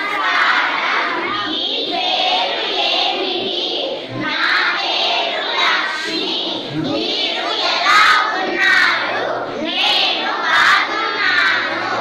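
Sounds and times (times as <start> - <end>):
children reading aloud in unison: 0.0 - 12.0.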